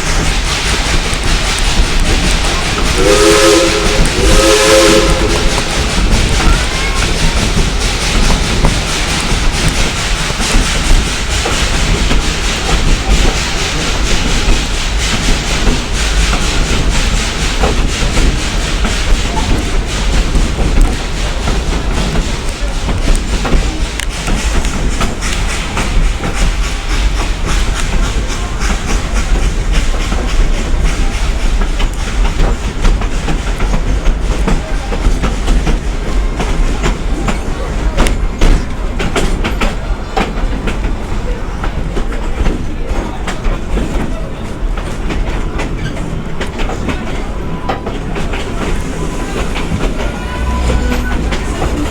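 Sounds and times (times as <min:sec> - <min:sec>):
train car rumbling: 0:00.0 - 0:51.9.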